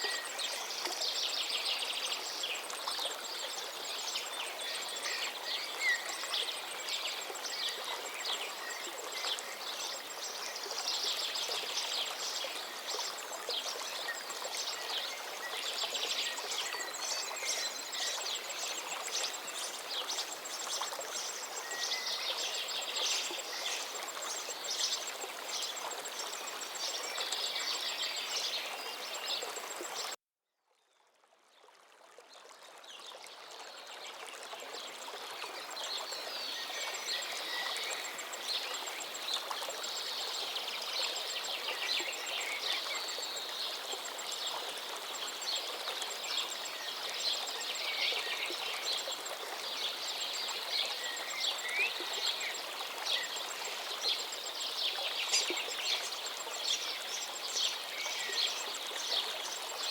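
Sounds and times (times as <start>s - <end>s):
river flowing: 0.0s - 30.2s, 31.2s - 59.9s.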